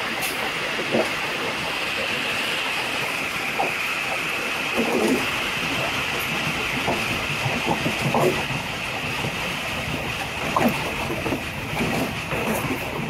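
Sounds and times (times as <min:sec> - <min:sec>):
low train rumble: 0:00.0 - 0:13.0
train wheels and wind rushing: 0:00.0 - 0:13.0.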